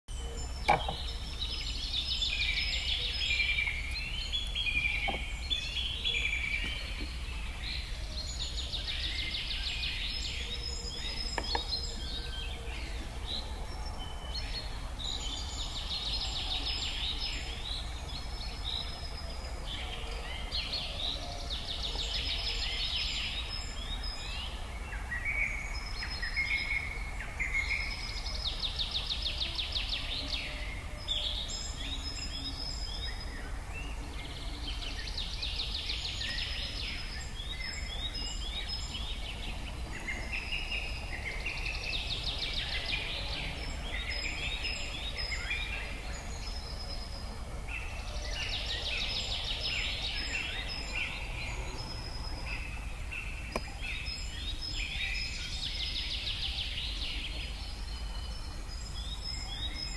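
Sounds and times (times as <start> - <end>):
songbirds trilling and chirping: 0.1 - 59.9.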